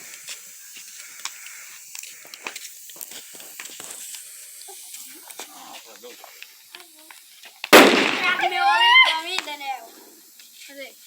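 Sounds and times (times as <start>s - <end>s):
bonfire hissing and crackling: 0.0s - 11.0s.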